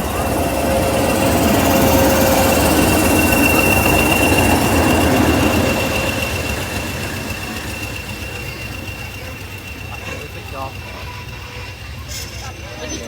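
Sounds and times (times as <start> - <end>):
high-pitched squeal: 0.0 - 13.0
train rushing past: 0.0 - 13.0.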